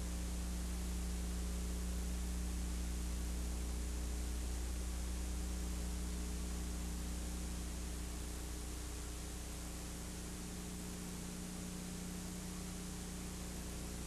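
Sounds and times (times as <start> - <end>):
low mains hum: 0.0 - 14.0
tape hiss: 0.0 - 14.0.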